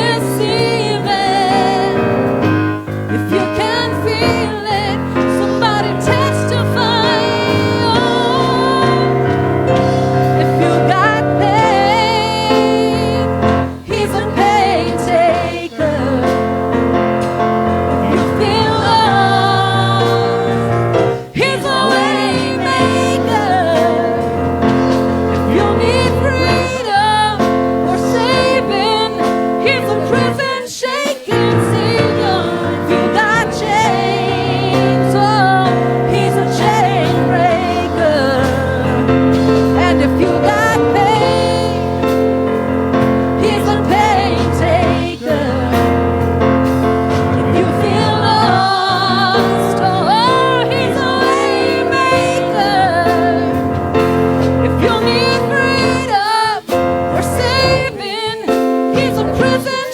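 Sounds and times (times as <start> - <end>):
gospel choir singing: 0.0 - 59.9
person singing: 0.0 - 59.9
piano and keyboard accompaniment: 0.0 - 59.9.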